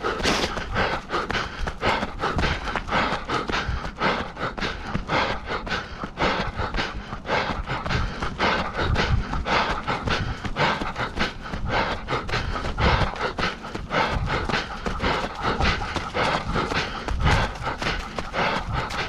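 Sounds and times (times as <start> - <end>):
hard panting breath: 0.0 - 19.0
running footfalls: 0.0 - 19.0.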